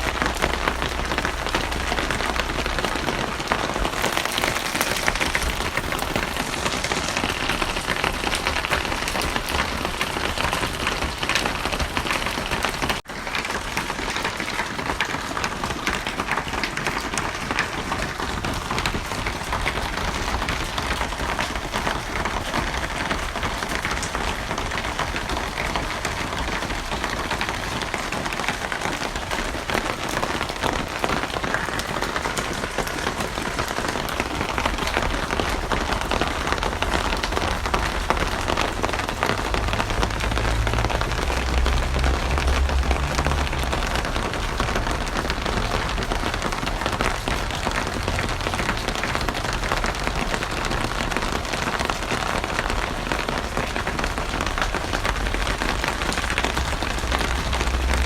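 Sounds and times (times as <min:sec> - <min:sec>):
dense rainfall: 0:00.0 - 0:58.0.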